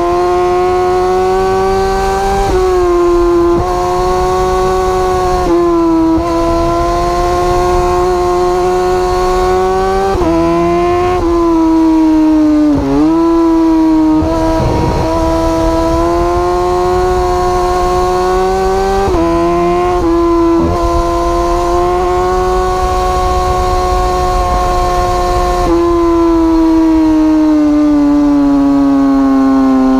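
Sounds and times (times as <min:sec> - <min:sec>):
motorcycle engine revving high: 0:00.0 - 0:29.9
wind rushing over camera: 0:01.8 - 0:27.0.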